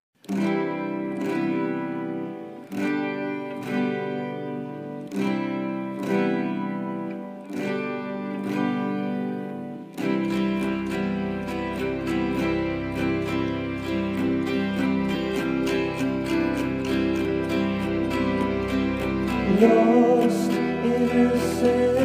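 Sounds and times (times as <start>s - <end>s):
guitar chords ringing: 0.2s - 22.0s.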